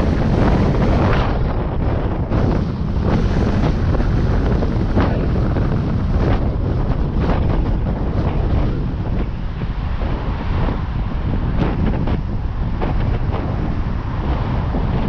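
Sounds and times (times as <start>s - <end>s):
car driving low rumble: 0.0s - 15.0s
wind buffeting microphone: 0.0s - 15.0s.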